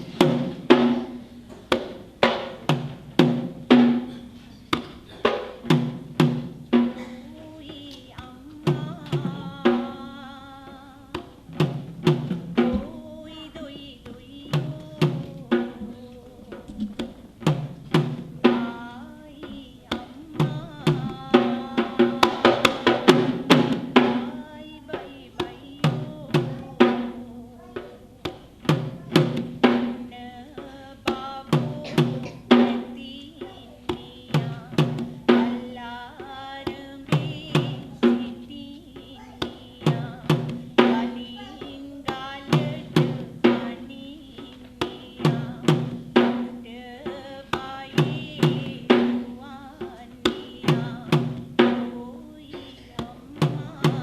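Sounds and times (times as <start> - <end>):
drums in fast rhythm: 0.0 - 13.4, 14.0 - 54.0.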